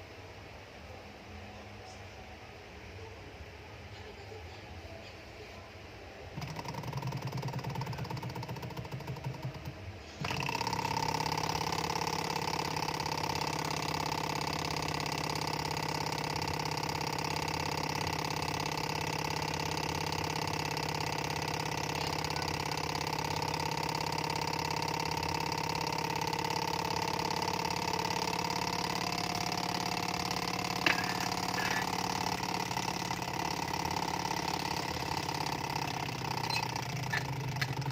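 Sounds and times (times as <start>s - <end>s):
constant engine hum: 6.2s - 37.9s
small engine clattering: 6.3s - 37.9s.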